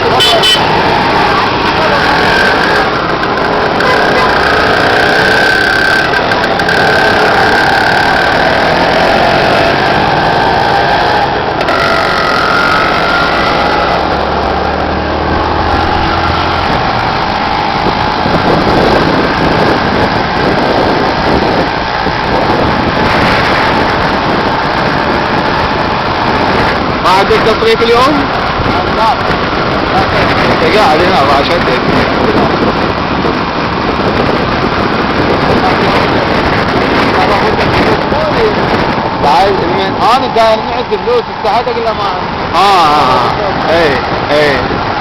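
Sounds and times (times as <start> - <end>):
motorcycle engine: 0.0 - 45.0
road noise: 0.0 - 45.0.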